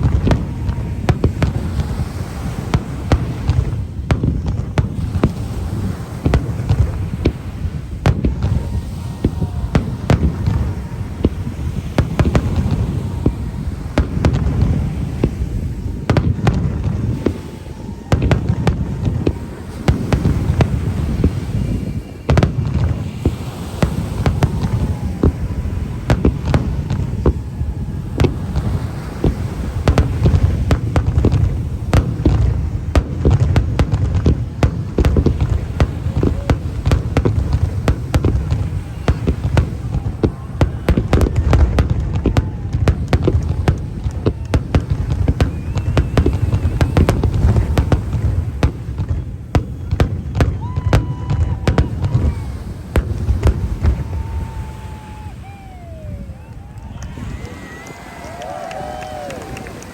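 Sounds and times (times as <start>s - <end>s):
low booming: 0.0s - 57.3s
fireworks bangs and cracks: 0.0s - 59.9s.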